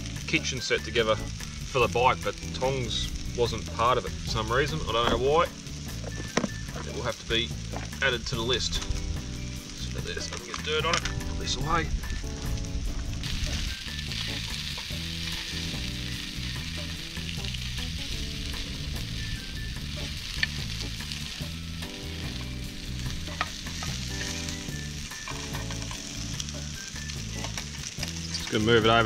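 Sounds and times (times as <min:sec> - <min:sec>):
sausages and onion sizzling in oil: 0:00.0 - 0:29.0.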